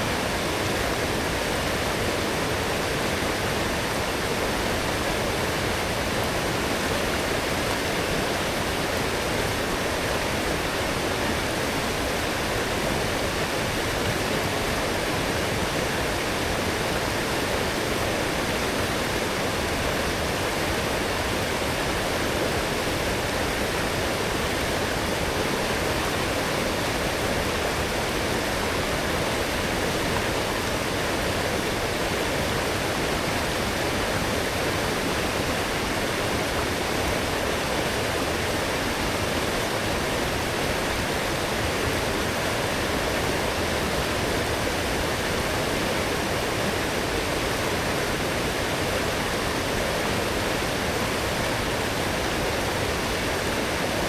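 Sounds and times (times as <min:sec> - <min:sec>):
stream rushing over its bed: 0:00.0 - 0:54.0.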